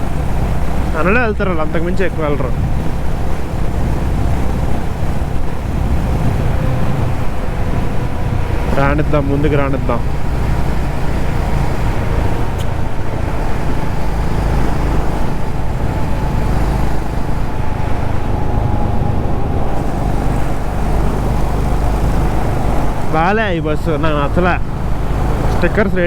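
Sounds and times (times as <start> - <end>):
wind rushing: 0.0 - 25.8
motorcycle engine rumble: 0.0 - 26.0.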